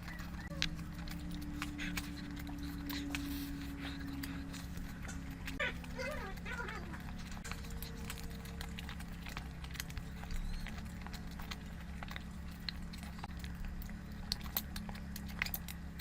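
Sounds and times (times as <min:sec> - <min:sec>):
person chewing and smacking: 0:00.0 - 0:16.0
steady low hum: 0:00.0 - 0:16.0.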